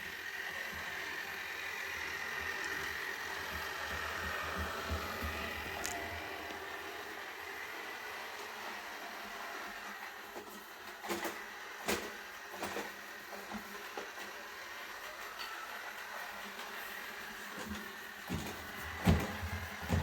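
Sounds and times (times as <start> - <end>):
robot vacuum whirring: 0.0 - 20.0.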